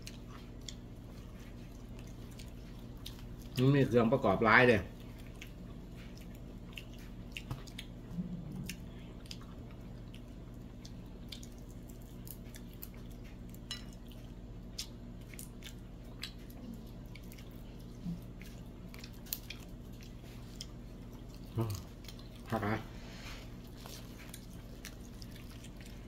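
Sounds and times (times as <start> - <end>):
wet chewing smacks: 0.0 - 3.8, 4.9 - 22.8, 23.4 - 26.0
steady low hum: 0.0 - 26.0.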